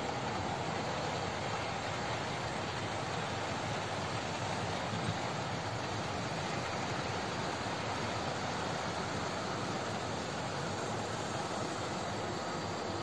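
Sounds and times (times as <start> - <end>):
model trains running on tracks: 0.0 - 13.0.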